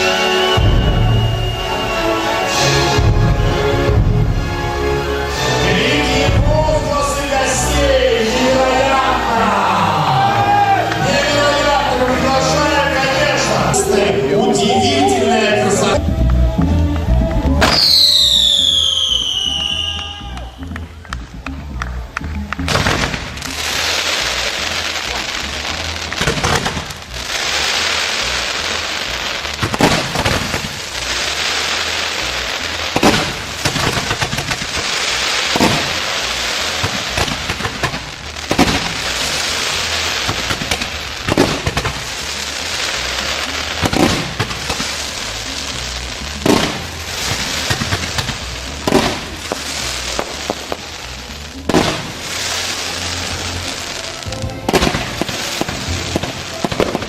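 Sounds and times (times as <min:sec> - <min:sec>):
fireworks crackling hiss: 0:00.0 - 0:21.6, 0:22.5 - 0:57.0.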